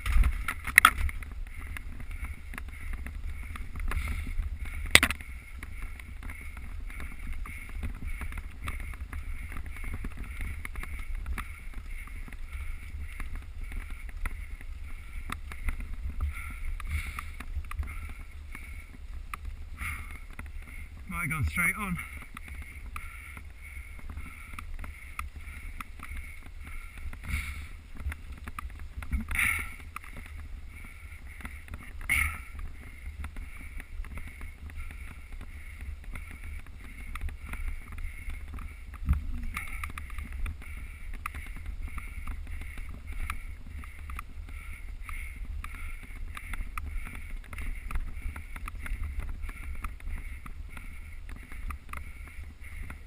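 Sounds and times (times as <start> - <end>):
small bike clicks: 0.0 - 21.1, 22.0 - 53.0
bike tyres rumbling off-road: 0.0 - 53.0
knocks from trail bumps: 0.0 - 53.0.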